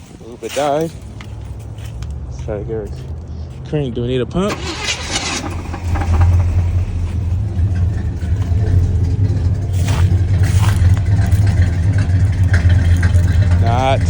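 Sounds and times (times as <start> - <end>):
car engine running: 0.2 - 14.0.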